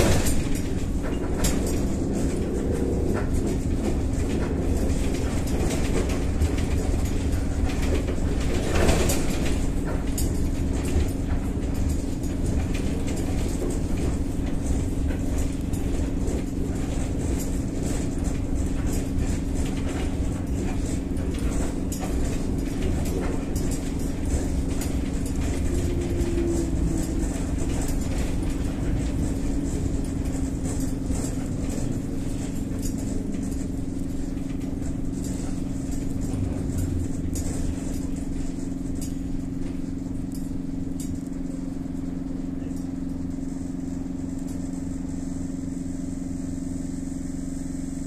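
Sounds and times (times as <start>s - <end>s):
body and windows rattling: 0.0s - 41.0s
low road rumble: 0.0s - 47.5s.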